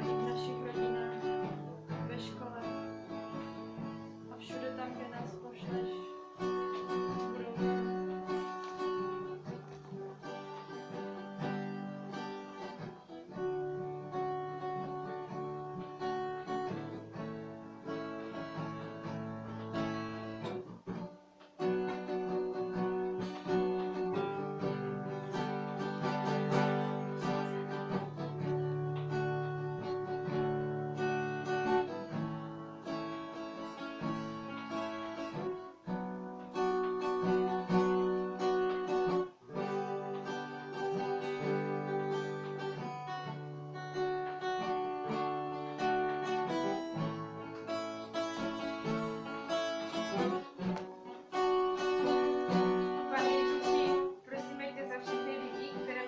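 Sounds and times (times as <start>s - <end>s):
acoustic guitar chords: 0.0s - 56.0s.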